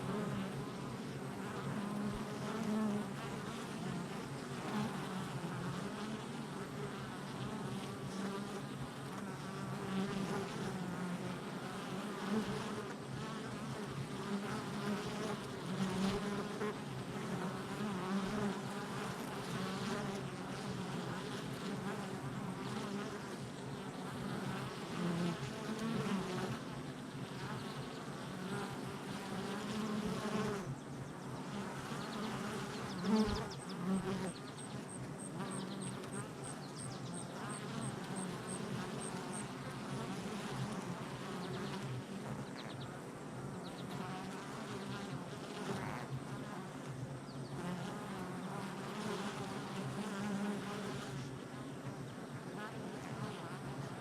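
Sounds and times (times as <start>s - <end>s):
bee flying close past: 0.0s - 54.0s
bees buzzing: 0.0s - 54.0s.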